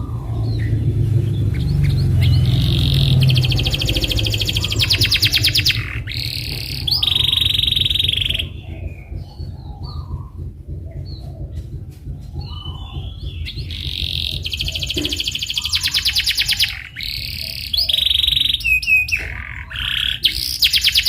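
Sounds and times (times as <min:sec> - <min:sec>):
canary singing trills: 0:00.0 - 0:21.0
steady low rumble: 0:00.0 - 0:21.0.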